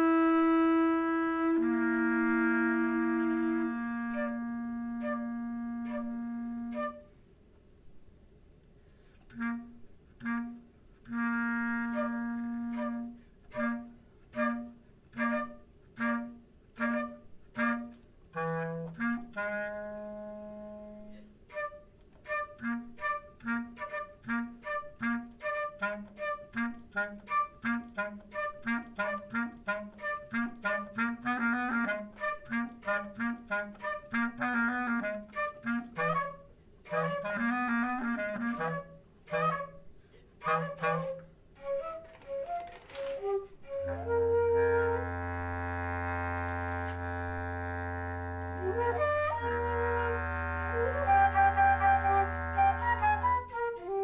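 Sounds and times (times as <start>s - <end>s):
flute: 0.0s - 7.2s, 9.2s - 54.0s
clarinet: 0.0s - 7.4s, 8.9s - 54.0s.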